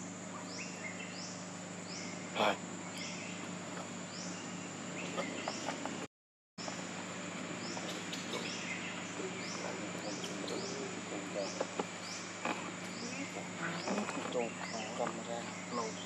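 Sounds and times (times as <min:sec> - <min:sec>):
insect drone: 0:00.0 - 0:16.0
rising insect chirp: 0:00.0 - 0:16.0.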